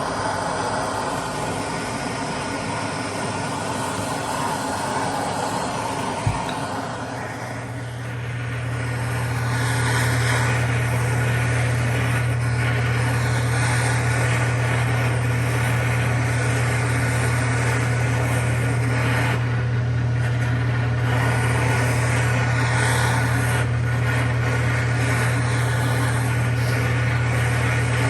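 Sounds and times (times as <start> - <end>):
air compressor motor hum: 0.0 - 28.0.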